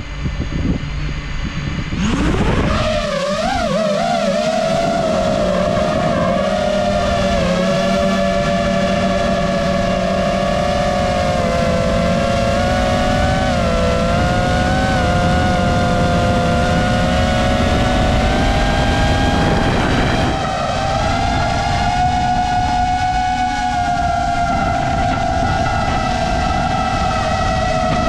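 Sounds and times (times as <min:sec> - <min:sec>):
low rushing noise: 0:00.0 - 0:28.0
quadcopter motors whining: 0:00.0 - 0:28.0.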